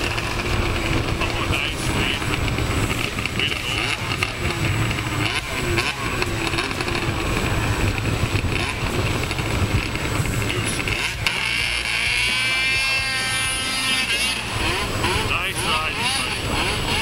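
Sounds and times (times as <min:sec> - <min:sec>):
snowmobile engine at high revs: 0:00.0 - 0:17.0.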